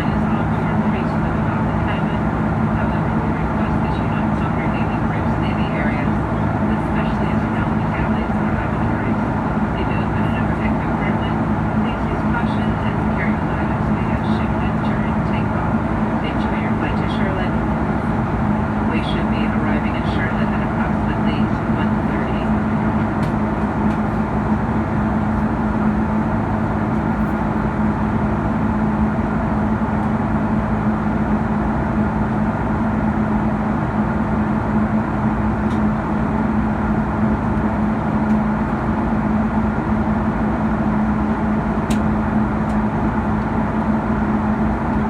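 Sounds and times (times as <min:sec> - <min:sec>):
airplane cabin engine drone: 0:00.0 - 0:45.0
constant low hum: 0:00.0 - 0:45.0.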